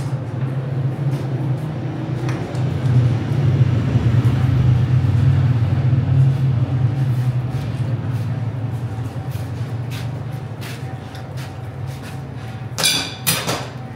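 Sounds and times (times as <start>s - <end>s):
low motor rumble: 0.0s - 12.8s.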